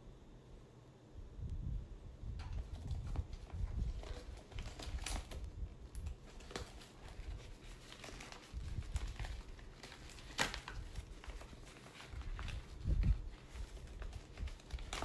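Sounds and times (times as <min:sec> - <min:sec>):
paper wrapping rustling: 0:02.4 - 0:15.0.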